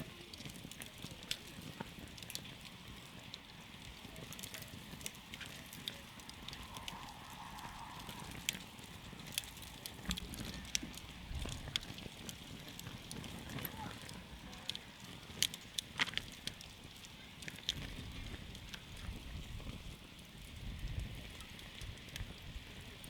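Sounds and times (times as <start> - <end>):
campfire crackling: 0.0 - 23.0
low hiss of burning: 0.0 - 23.0.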